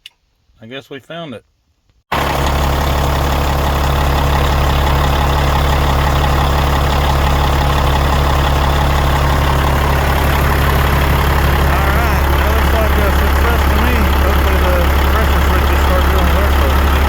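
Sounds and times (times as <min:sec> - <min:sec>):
diesel truck engine idling: 0:02.1 - 0:17.0.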